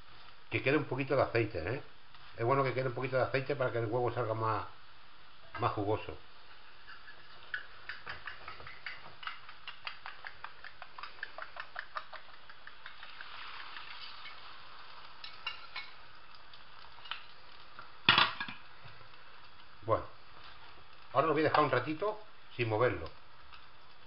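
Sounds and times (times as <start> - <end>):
eggs sizzling in oil: 0.0 - 24.0.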